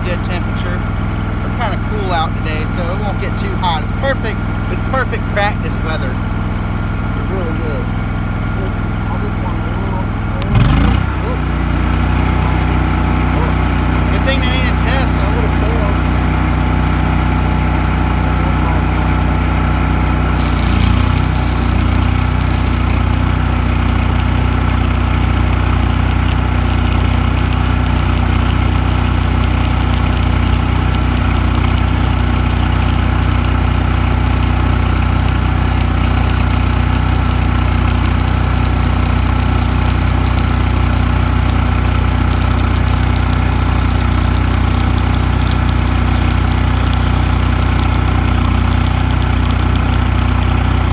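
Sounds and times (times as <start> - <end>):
welding arc crackling hiss: 0.0 - 50.9
welding machine engine running: 0.0 - 50.9.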